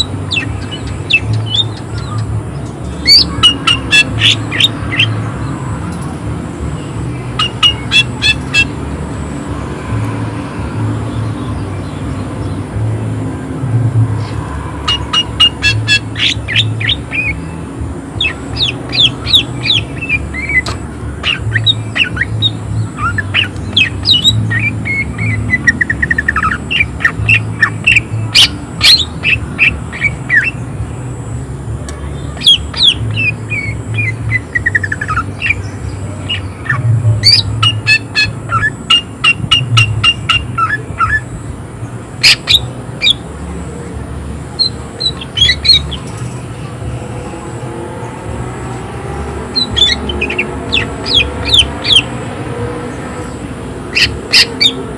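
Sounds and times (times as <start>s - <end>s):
bird singing harsh chirps: 0.0s - 5.6s, 6.7s - 9.0s, 14.2s - 30.9s, 32.1s - 43.4s, 44.4s - 54.9s.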